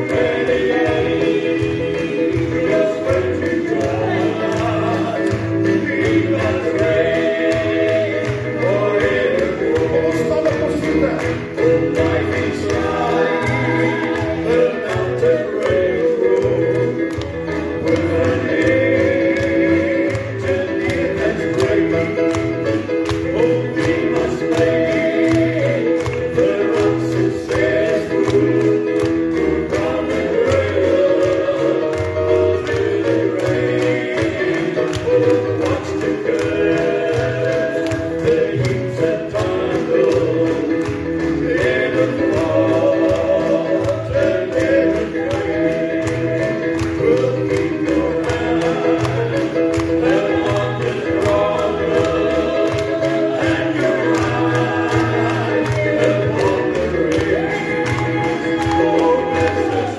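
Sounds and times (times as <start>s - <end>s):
gospel singers in harmony: 0.0s - 59.9s.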